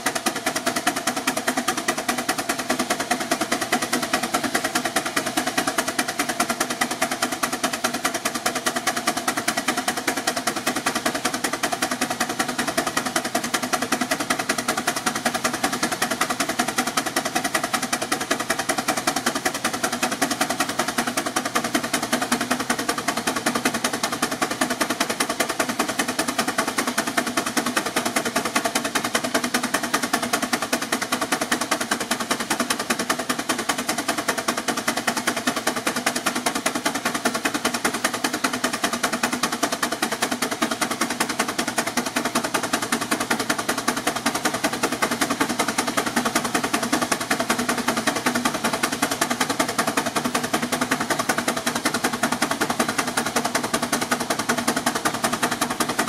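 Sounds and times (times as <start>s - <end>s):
steam traction engine running: 0.0s - 56.0s.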